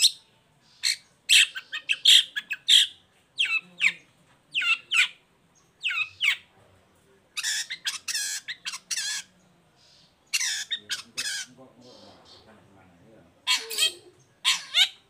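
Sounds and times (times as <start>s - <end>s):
bird calling: 0.0s - 5.2s, 5.8s - 6.5s, 7.4s - 12.6s, 13.4s - 15.0s
harsh rasping bird chatter: 0.0s - 6.5s, 7.3s - 12.7s, 13.4s - 15.0s.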